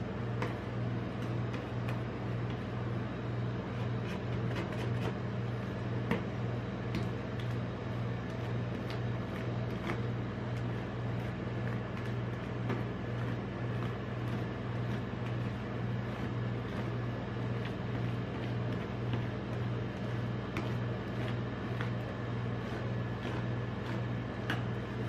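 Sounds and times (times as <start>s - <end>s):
machine low hum: 0.0s - 25.0s.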